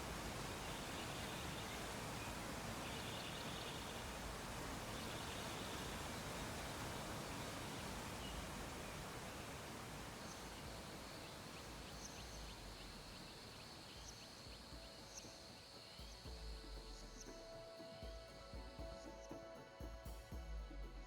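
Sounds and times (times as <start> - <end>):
faint background hiss: 0.0 - 21.0.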